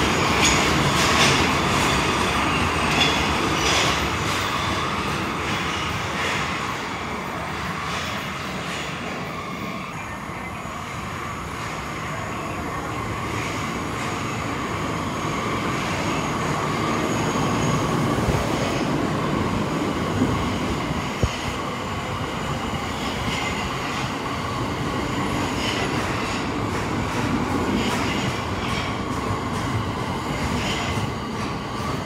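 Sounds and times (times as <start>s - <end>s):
subway train wheels rumbling: 0.0s - 32.0s.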